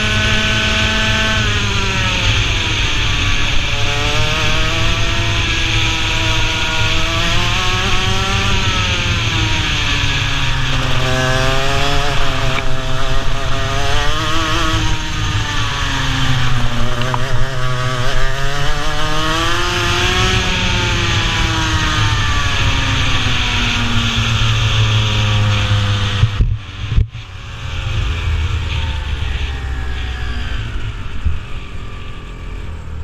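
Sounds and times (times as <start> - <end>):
kart engine revving: 0.0 - 33.0.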